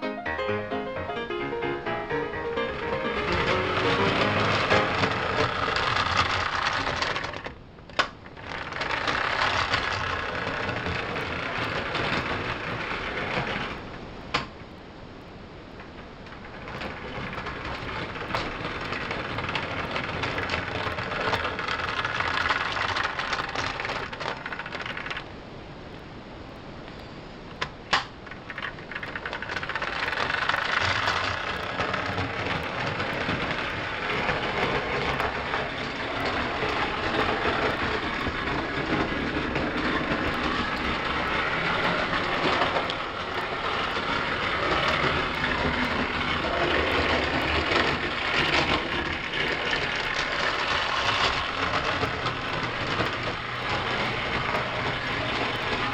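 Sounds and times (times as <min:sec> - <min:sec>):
toy train wheels clattering on track: 0:01.8 - 0:14.6, 0:15.8 - 0:25.3, 0:27.5 - 0:55.9.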